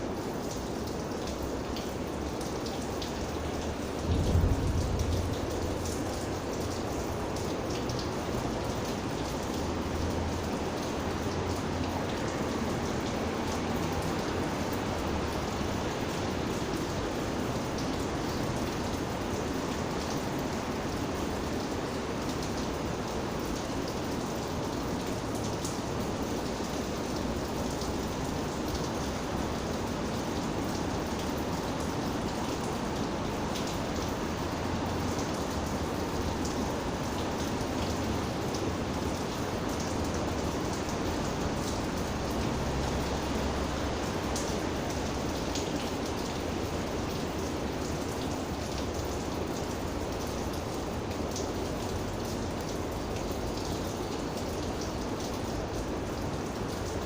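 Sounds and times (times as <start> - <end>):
raindrops ticking on a surface: 0.0 - 57.0
steady rain falling: 0.0 - 57.0.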